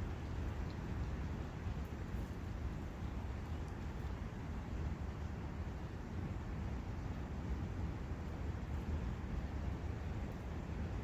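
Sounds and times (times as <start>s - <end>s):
wind in forest: 0.0s - 11.0s.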